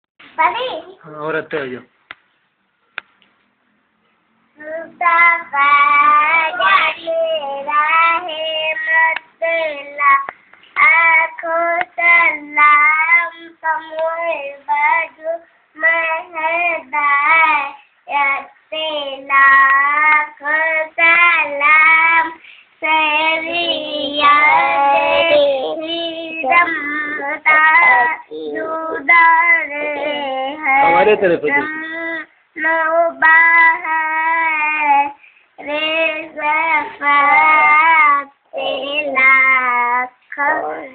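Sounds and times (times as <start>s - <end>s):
child singing alone: 4.6s - 40.9s.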